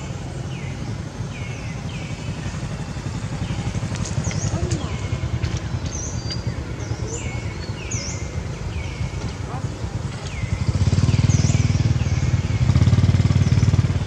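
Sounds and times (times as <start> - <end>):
bird chirping: 0.0 - 14.0
motorcycle engine rumble: 0.0 - 14.0.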